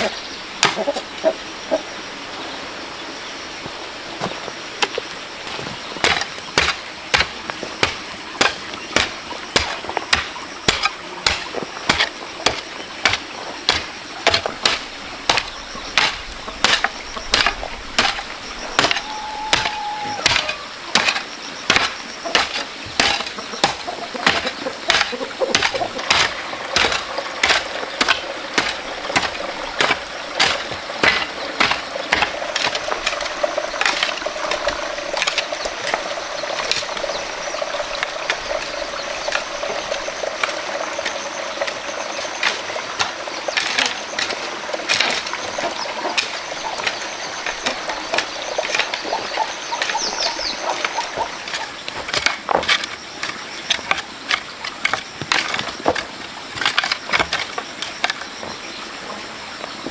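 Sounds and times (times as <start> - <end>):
hand tool striking sand and gravel: 0.0 - 1.3, 4.2 - 58.8.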